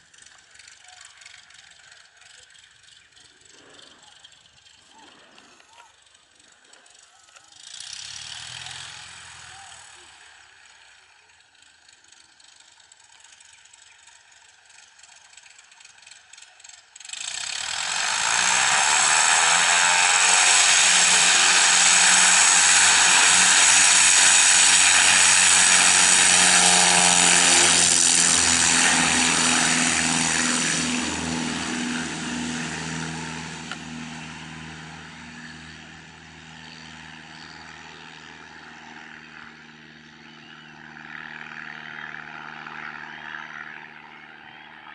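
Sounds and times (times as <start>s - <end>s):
propeller airplane passing: 0.0s - 44.9s.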